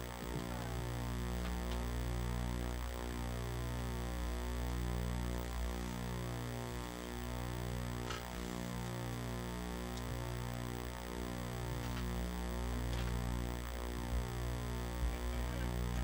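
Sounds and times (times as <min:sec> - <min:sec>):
soft sustained keyboard chords: 0:00.0 - 0:16.0.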